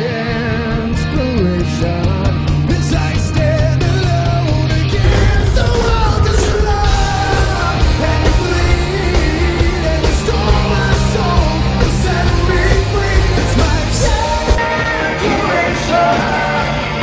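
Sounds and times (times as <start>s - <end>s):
person singing: 0.0s - 17.0s
rock band playing live: 0.0s - 17.0s.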